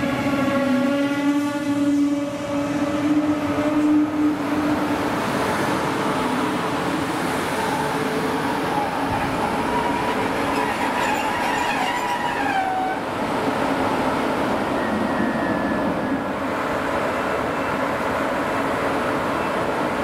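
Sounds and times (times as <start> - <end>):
electric locomotive rushing: 0.0 - 20.0
train rolling past: 0.0 - 20.0.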